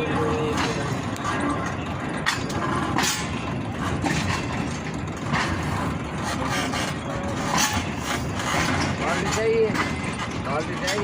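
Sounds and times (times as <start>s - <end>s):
train rumbling and rattling: 0.0s - 11.0s.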